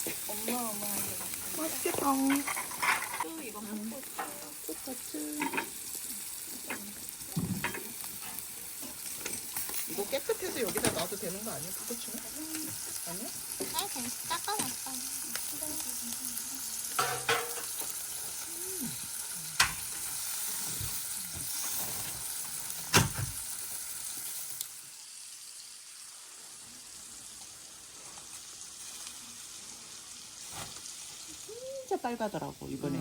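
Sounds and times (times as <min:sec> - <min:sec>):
meat sizzling on a grill: 0:00.0 - 0:33.0.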